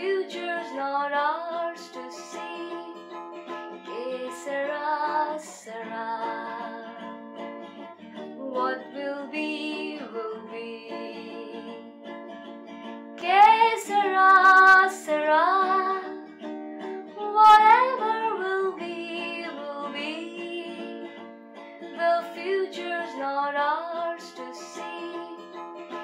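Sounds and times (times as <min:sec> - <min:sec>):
person singing: 0:00.0 - 0:03.2, 0:03.8 - 0:07.1, 0:08.2 - 0:11.9, 0:13.2 - 0:16.2, 0:17.2 - 0:21.0, 0:21.9 - 0:26.0
plucked-string accompaniment: 0:00.0 - 0:26.0.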